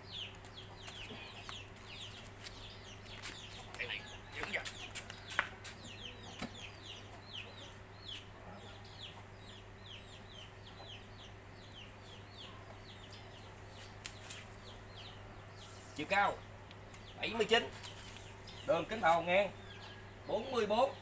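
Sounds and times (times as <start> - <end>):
small birds peeping: 0.0 - 21.0.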